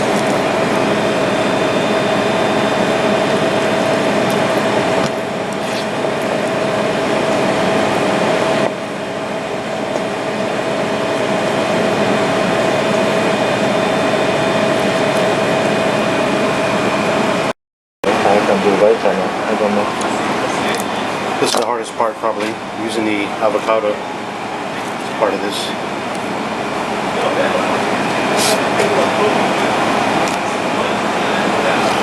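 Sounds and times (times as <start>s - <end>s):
steady whining tone: 0.0s - 32.0s
ventilation fan whooshing hum: 0.0s - 32.0s.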